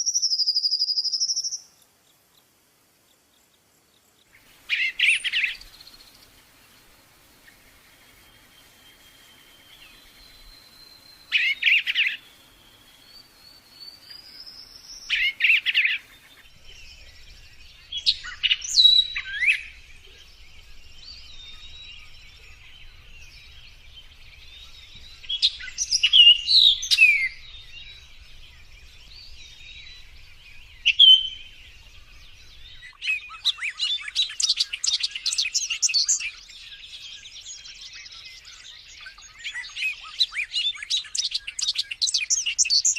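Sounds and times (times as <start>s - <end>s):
songbird whistles and trills: 0.0s - 1.8s, 7.4s - 42.9s.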